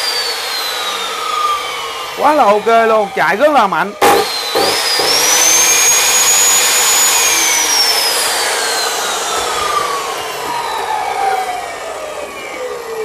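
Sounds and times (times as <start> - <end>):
cut-off saw whining down: 0.0 - 13.0.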